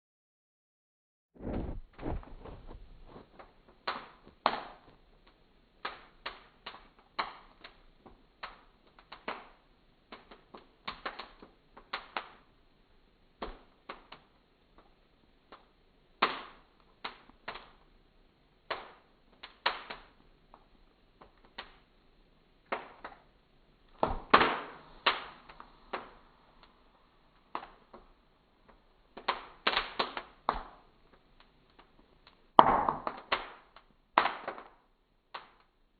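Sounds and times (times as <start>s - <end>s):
embers popping: 1.4s - 12.5s, 13.4s - 17.9s, 18.6s - 22.0s, 22.6s - 35.8s
fire crackling: 1.4s - 35.9s.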